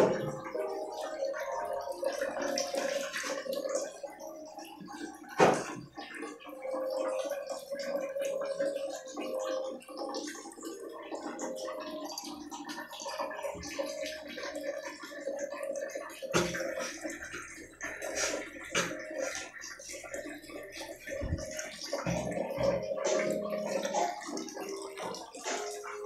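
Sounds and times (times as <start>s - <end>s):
water running and splashing on tiles: 0.0s - 26.0s.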